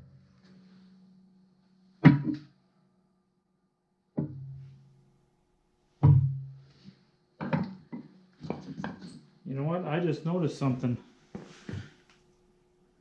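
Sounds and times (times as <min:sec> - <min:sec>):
low ringing hum: 0:00.0 - 0:13.0.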